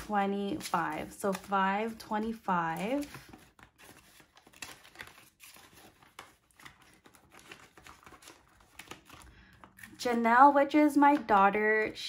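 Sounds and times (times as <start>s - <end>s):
banknotes and plastic envelope crinkling: 0.0s - 12.0s.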